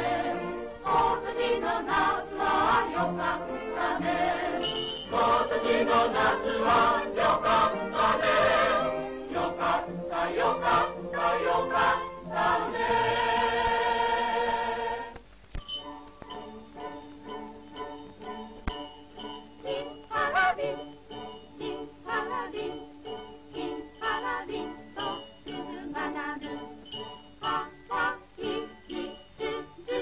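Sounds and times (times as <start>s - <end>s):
film music with choir singing: 0.0s - 30.0s.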